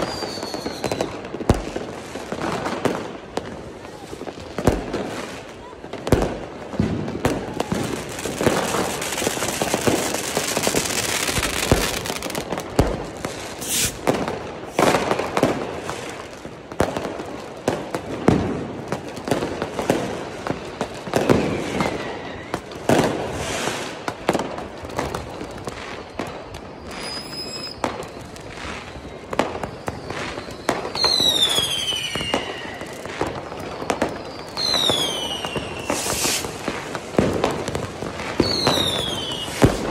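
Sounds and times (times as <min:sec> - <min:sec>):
firecrackers banging and crackling: 0:00.0 - 0:39.9
hiss of burning fireworks: 0:00.0 - 0:39.9
whistling fireworks: 0:00.0 - 0:39.9.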